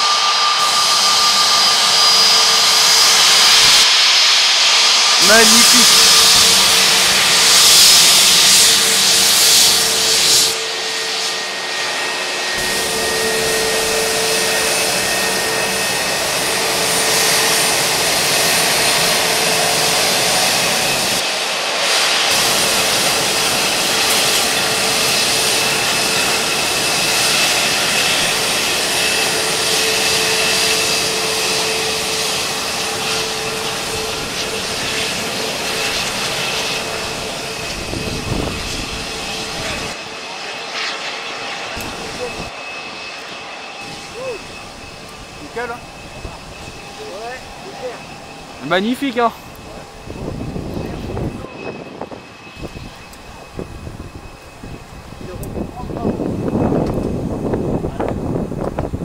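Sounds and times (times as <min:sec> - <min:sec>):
jet engines whining at taxi: 0:00.0 - 0:59.0.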